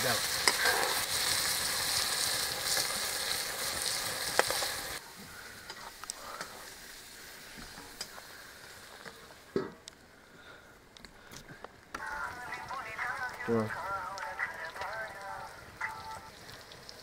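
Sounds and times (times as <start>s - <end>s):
food sizzling: 0.0s - 9.6s, 11.9s - 17.0s.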